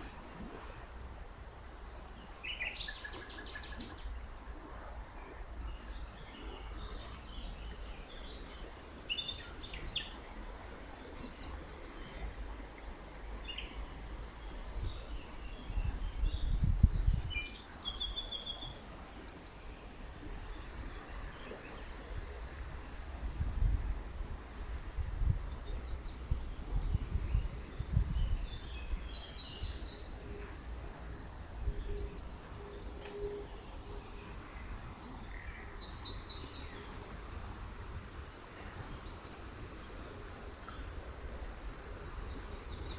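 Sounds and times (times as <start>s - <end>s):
songbirds chirping: 1.5s - 42.9s.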